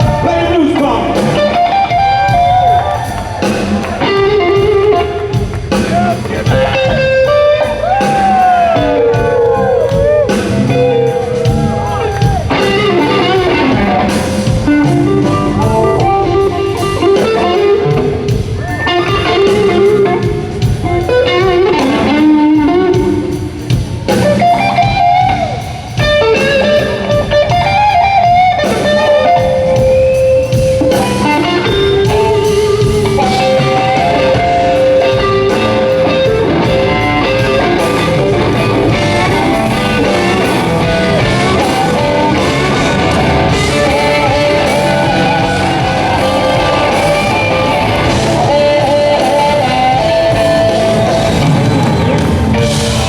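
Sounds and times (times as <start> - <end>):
blues-rock band playing: 0.0 - 53.0
electric guitar bending notes: 0.0 - 53.0.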